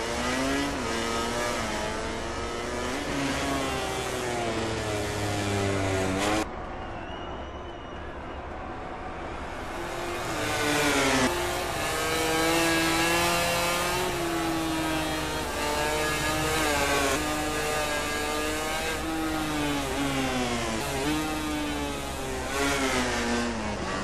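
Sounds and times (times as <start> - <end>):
racing motorcycle engine revving: 0.0 - 6.5, 9.2 - 24.0.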